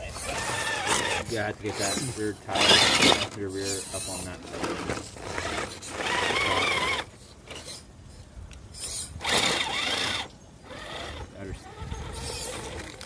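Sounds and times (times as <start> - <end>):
toy truck electric motor whining: 0.0 - 7.8, 8.7 - 13.0.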